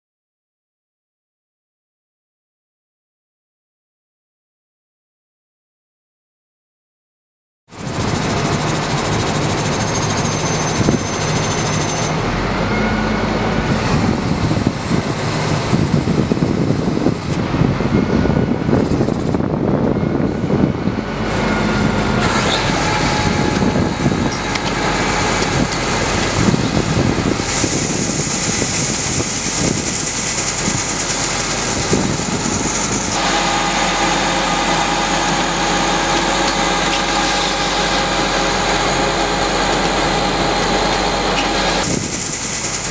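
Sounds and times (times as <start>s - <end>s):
belt conveyor running: 7.7s - 42.9s
truck engine running: 7.7s - 42.9s.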